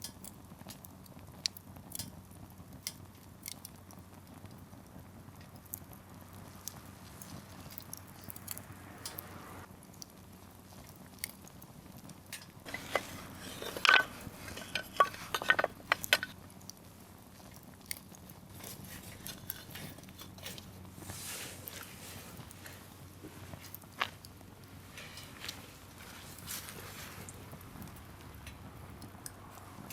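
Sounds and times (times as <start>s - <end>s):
campfire crackling: 0.0s - 29.9s
firewood popping: 0.0s - 29.9s.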